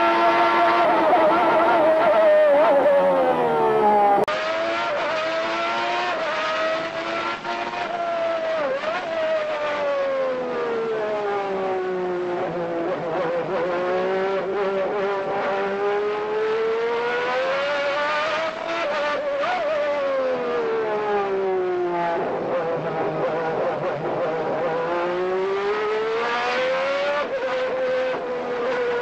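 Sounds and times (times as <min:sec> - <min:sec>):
another racing engine: 0:00.0 - 0:29.0
racing car engine revving: 0:00.0 - 0:29.0.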